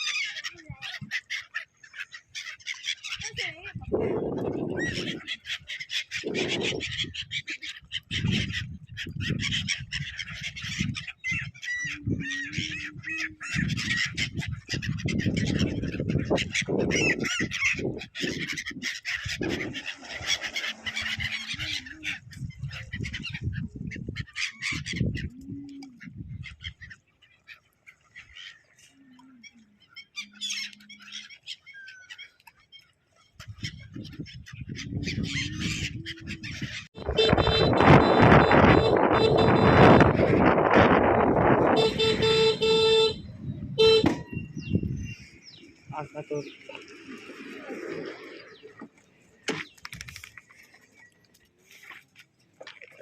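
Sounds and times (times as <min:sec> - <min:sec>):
birds calling and chattering: 0:00.0 - 0:52.9.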